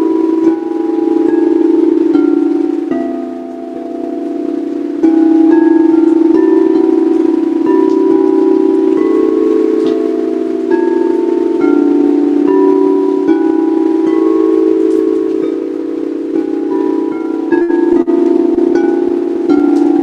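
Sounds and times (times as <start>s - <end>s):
high chime-like notes: 0.0s - 20.0s
singing bowls ringing: 0.0s - 20.0s.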